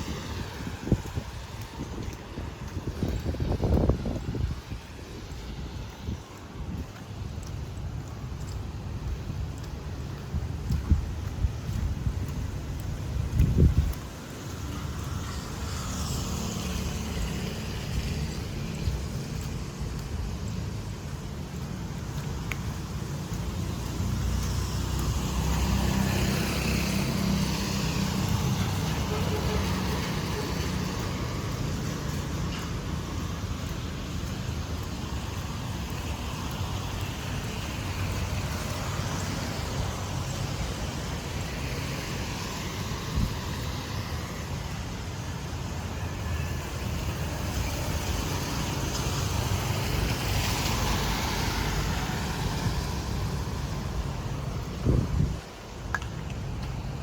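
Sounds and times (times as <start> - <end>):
motorbikes and cars passing: 0.0 - 7.3, 10.8 - 57.0.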